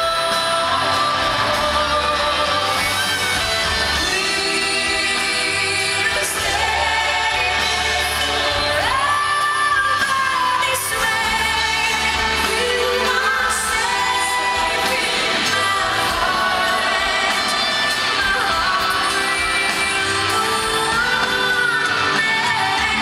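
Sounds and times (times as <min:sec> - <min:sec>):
live pop band: 0:00.0 - 0:23.0.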